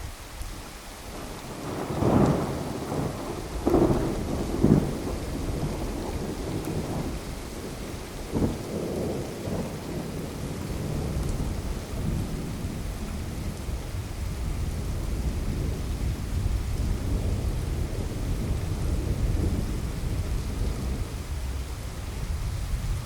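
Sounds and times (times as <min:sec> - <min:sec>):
steady rain: 0:00.0 - 0:23.0
thunder rumbling: 0:01.1 - 0:23.0.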